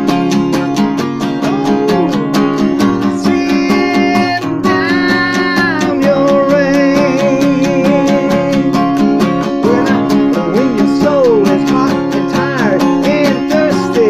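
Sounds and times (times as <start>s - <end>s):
acoustic guitar strumming: 0.0s - 14.0s
gliding guitar melody: 0.0s - 14.0s
person singing slow song: 1.3s - 14.0s.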